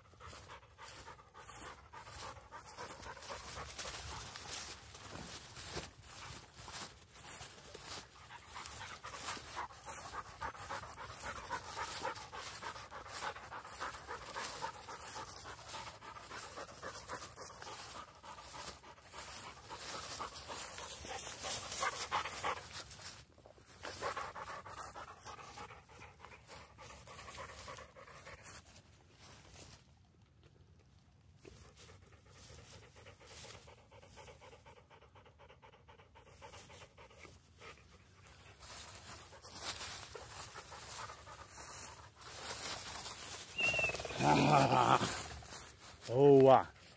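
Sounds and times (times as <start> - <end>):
dog panting hard: 0.0 - 28.8, 31.6 - 46.0
rustling of tall grass: 0.0 - 30.0, 31.4 - 34.6, 36.4 - 46.9.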